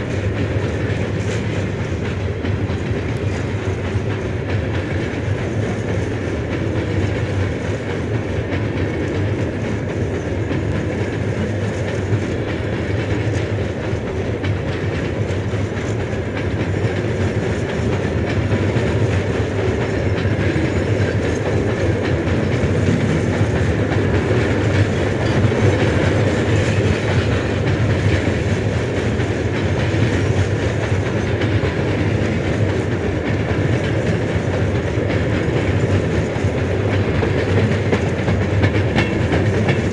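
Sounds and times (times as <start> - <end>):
train running on rails: 0.0 - 39.9.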